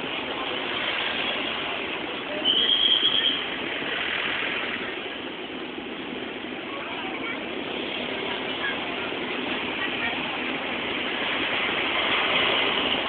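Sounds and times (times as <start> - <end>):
crowd noise: 0.0 - 13.0
street traffic: 0.0 - 13.0.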